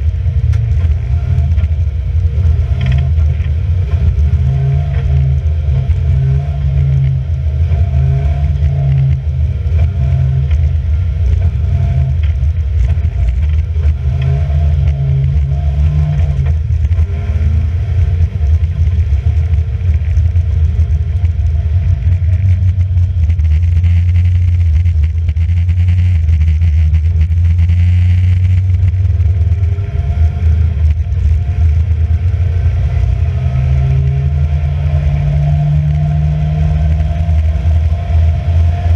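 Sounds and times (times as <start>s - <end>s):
racing car engine running: 0.0s - 38.9s.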